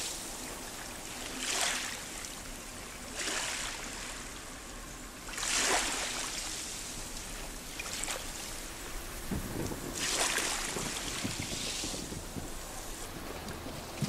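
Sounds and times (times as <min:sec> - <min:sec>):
small waves washing over rocks: 0:00.0 - 0:14.0.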